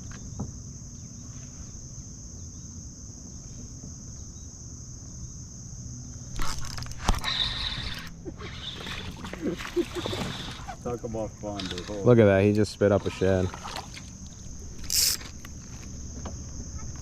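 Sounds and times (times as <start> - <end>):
crickets buzzing: 0.0 - 17.0
low outdoor rumble: 0.0 - 17.0.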